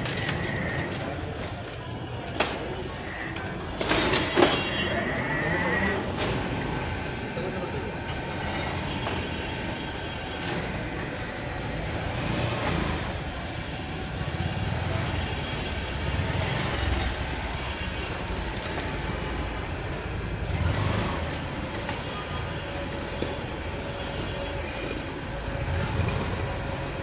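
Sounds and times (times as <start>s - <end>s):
heavy vehicle engine rumbling: 0.0s - 27.0s.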